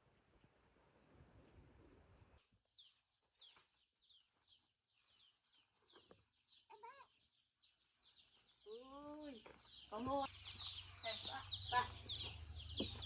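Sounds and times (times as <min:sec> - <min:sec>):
small birds chirping: 0:01.4 - 0:13.0.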